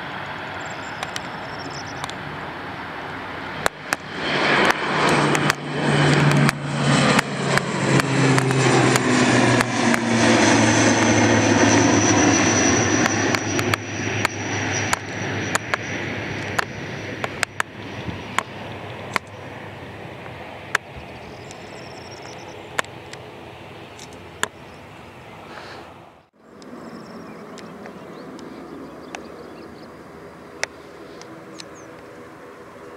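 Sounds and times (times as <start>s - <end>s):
turboprop aircraft drone: 0.0s - 32.9s.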